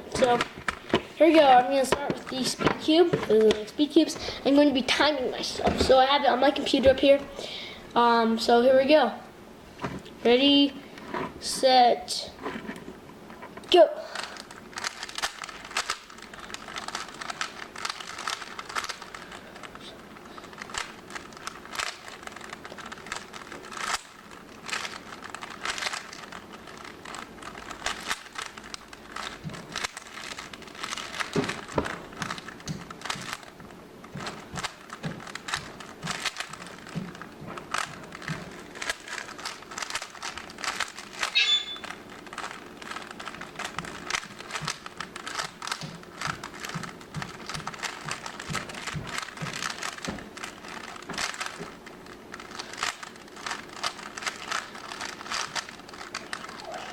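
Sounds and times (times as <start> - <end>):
speed cube clicking and rattling: 0.1 - 6.1, 13.7 - 56.9.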